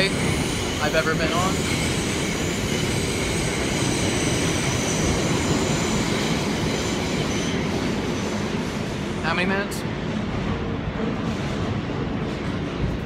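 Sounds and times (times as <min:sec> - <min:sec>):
subway car rumble and rattle: 0:00.0 - 0:13.0.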